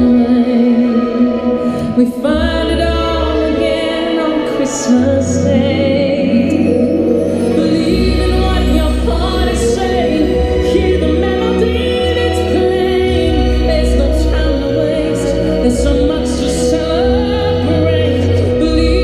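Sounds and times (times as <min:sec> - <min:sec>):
choir singing: 0:00.0 - 0:19.0
music over loudspeakers: 0:00.0 - 0:19.0.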